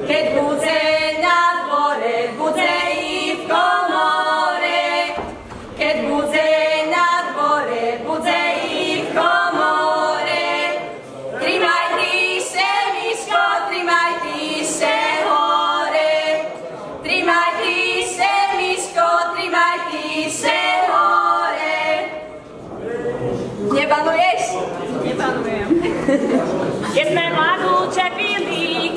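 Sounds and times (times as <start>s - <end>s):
young women singing unaccompanied: 0.0s - 22.4s, 26.9s - 28.9s.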